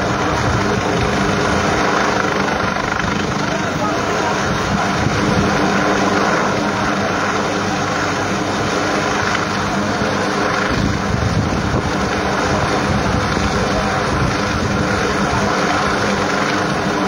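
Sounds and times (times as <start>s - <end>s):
helicopter hovering drone: 0.0s - 17.0s
wind buffeting microphone: 0.0s - 17.0s.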